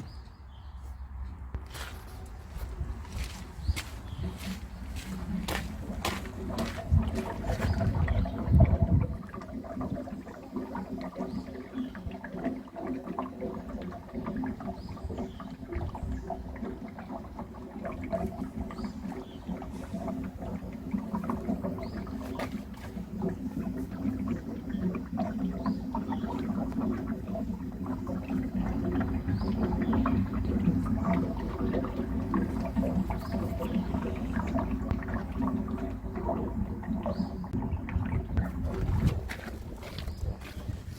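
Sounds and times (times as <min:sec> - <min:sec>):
hydraulic oil gurgling: 0:01.7 - 0:40.9.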